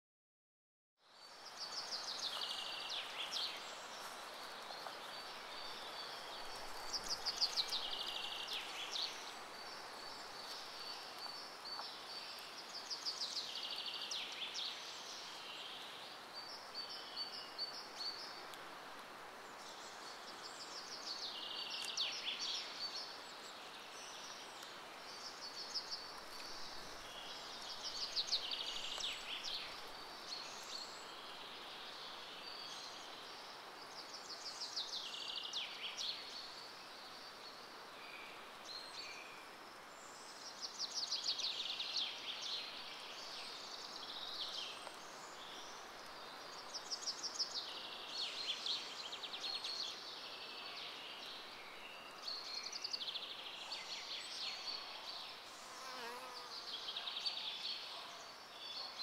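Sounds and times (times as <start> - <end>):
soft steady hiss: 1.0 - 59.0.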